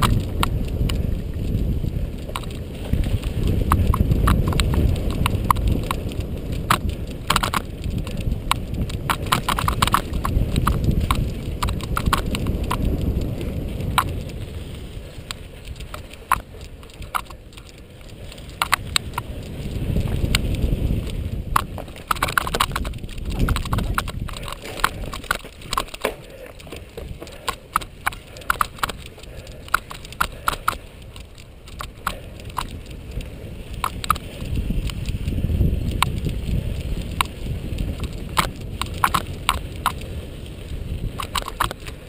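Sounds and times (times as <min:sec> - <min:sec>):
bike clacking and rattling: 0:00.0 - 0:42.0
wind and tyre rumble: 0:00.0 - 0:42.0.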